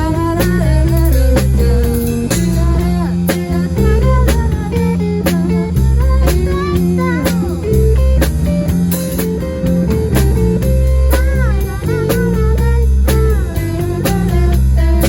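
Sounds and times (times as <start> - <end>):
guitar lead with bent notes: 0.0 - 15.0
live rock band playing: 0.0 - 15.0.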